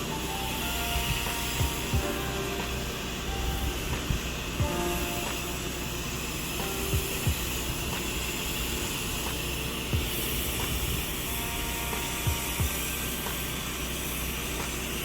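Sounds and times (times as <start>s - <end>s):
pressure washer spraying: 0.0s - 15.0s.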